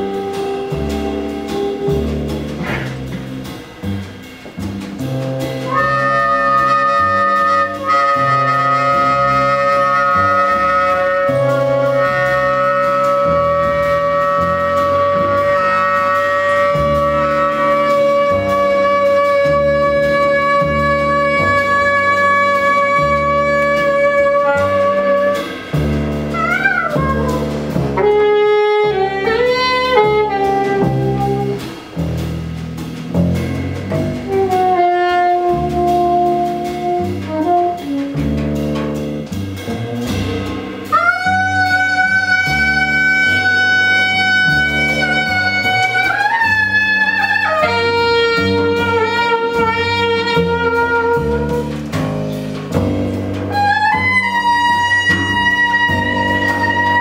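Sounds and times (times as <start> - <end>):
saxophone: 0.0 - 3.3, 5.6 - 31.8, 34.1 - 38.6, 39.6 - 52.2, 52.8 - 57.0
double bass line: 0.0 - 57.0
drum kit: 0.0 - 57.0.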